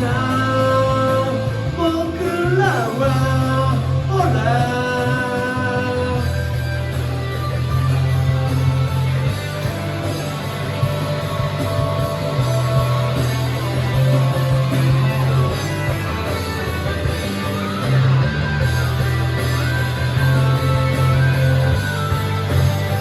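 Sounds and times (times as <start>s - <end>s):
rock band instrumental: 0.0s - 23.0s.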